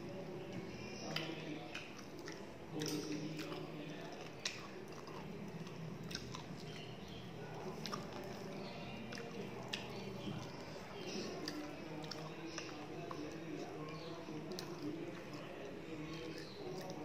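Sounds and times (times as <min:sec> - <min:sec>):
wet chewing: 0:00.5 - 0:17.0.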